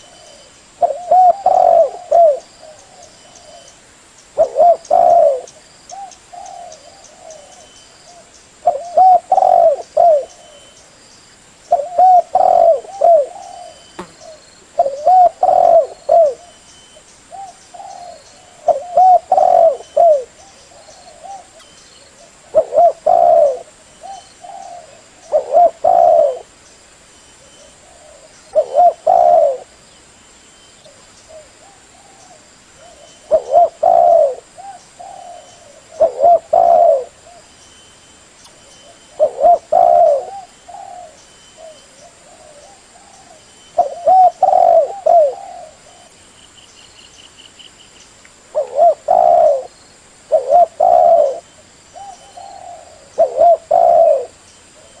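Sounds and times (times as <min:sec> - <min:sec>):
dove cooing: 0:00.0 - 0:03.8, 0:04.4 - 0:10.8, 0:11.7 - 0:16.6, 0:17.3 - 0:26.5, 0:27.4 - 0:29.8, 0:30.9 - 0:37.5, 0:38.8 - 0:46.2, 0:48.5 - 0:55.0.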